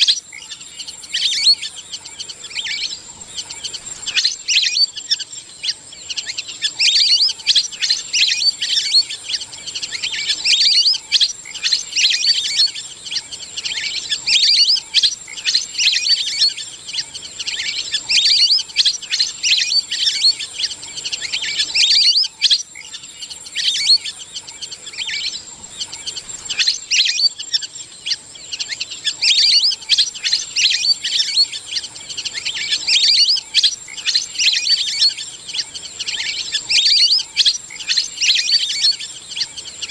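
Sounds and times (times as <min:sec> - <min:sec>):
ducks whistling chirps: 0:00.0 - 0:39.9.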